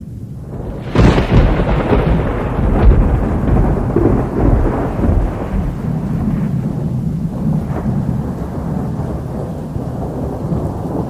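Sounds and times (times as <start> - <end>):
volcano eruption rumble: 0.0 - 11.0.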